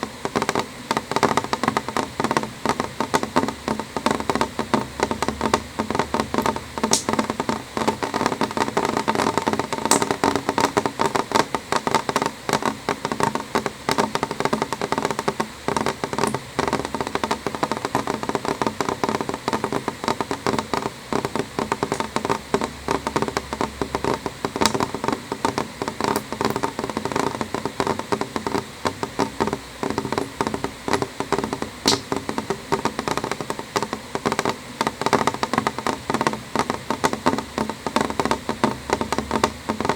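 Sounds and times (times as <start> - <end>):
rain pattering on window: 0.0 - 39.9.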